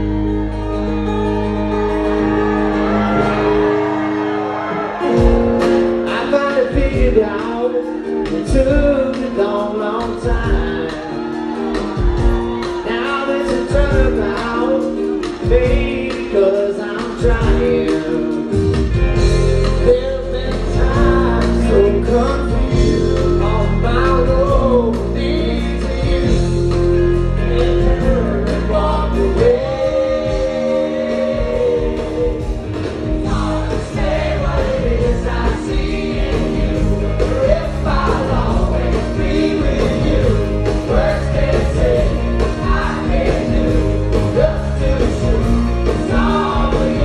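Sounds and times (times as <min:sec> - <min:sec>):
live rock band playing: 0:00.0 - 0:47.0
man singing: 0:05.9 - 0:11.4, 0:12.5 - 0:47.0.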